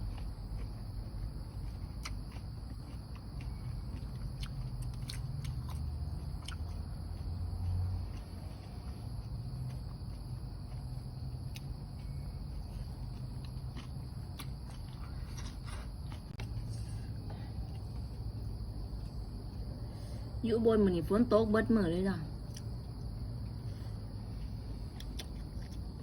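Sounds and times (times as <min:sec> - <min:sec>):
chewing: 0:00.0 - 0:19.8, 0:22.4 - 0:26.0
insect trill: 0:00.0 - 0:26.0.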